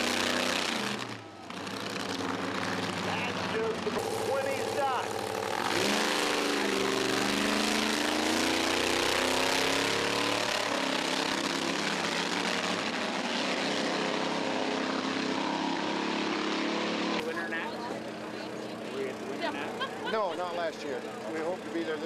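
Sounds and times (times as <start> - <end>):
engine at full throttle: 0.0 - 22.0.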